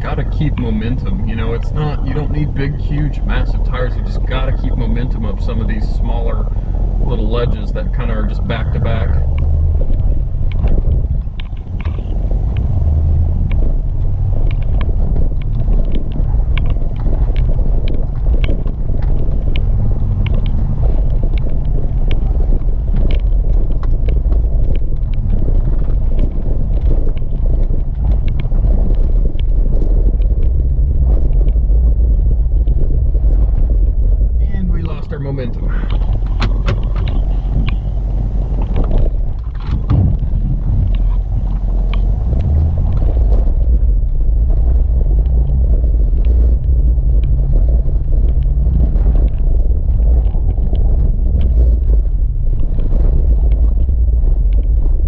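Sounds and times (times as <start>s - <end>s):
engine rumbling under load: 0.0s - 55.0s
small stones ticking: 0.0s - 55.0s.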